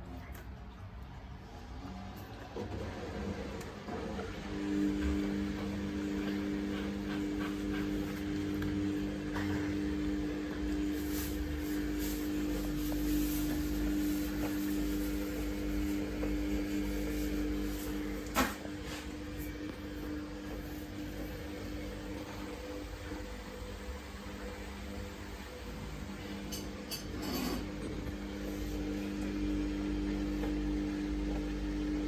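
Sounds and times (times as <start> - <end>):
washing machine running: 0.0 - 32.0.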